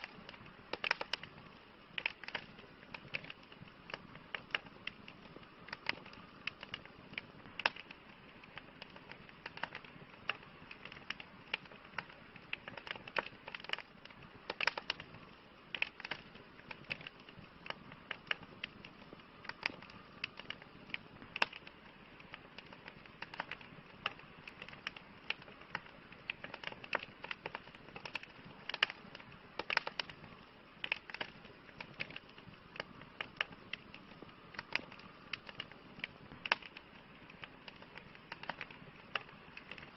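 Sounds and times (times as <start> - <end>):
campfire crackling: 0.0 - 39.9
low hiss of fire: 0.0 - 39.9.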